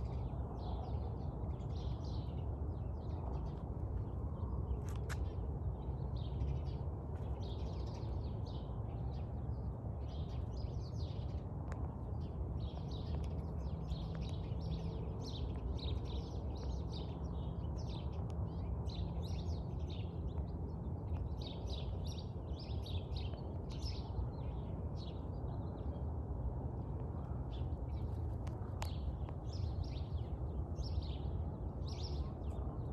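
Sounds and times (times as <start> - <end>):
small birds chirping: 0.0 - 26.0, 26.9 - 32.9.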